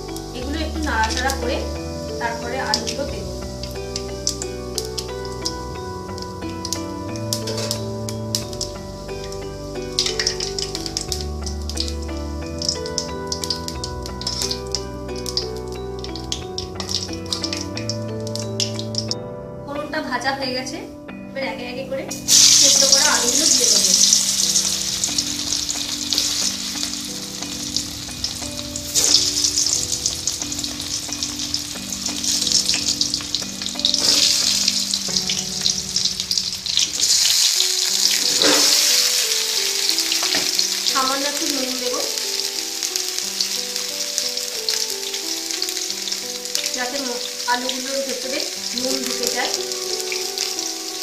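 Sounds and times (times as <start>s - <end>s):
potatoes sizzling in hot oil: 0.0s - 19.1s, 22.2s - 51.0s.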